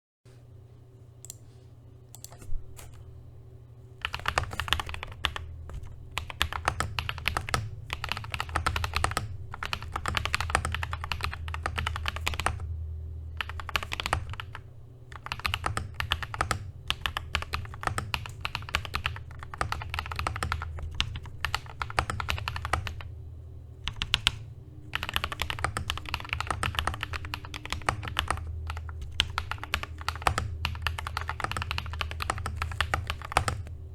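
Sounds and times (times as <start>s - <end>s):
typing on mechanical keyboard: 4.0s - 12.7s, 13.4s - 23.1s, 23.9s - 33.7s.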